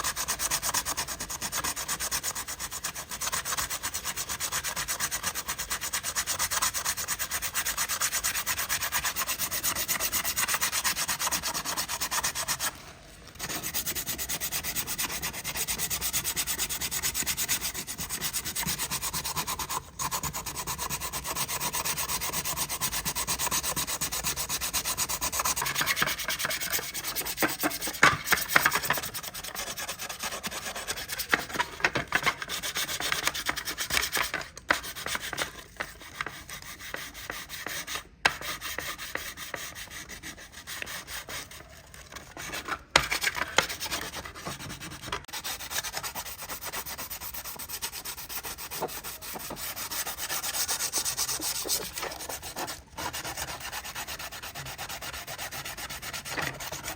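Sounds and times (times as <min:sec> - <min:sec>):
sanding a surface: 0:00.0 - 0:12.8, 0:13.4 - 0:56.9.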